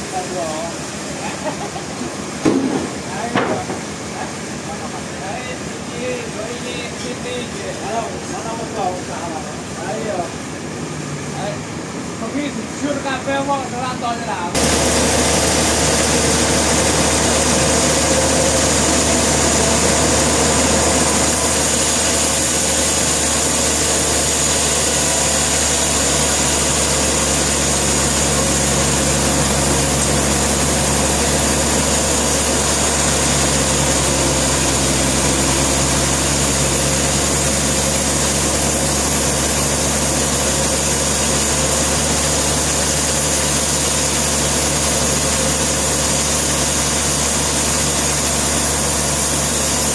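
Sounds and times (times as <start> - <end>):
sawmill machinery engine drone: 0.0 - 49.9.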